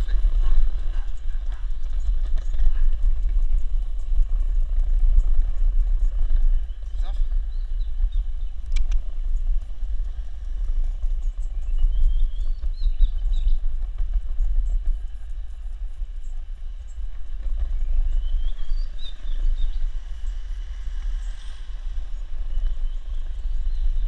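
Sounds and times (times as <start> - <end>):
skateboard wheels rolling on pavement: 0.0 - 24.0
wind buffeting microphone: 0.0 - 24.0.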